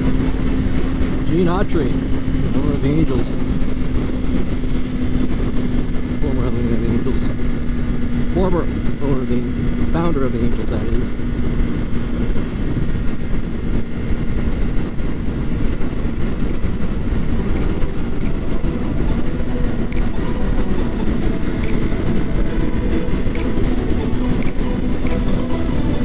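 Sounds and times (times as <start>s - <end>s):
motorcycle engine cruising: 0.0s - 26.0s
road rumble: 0.0s - 26.0s.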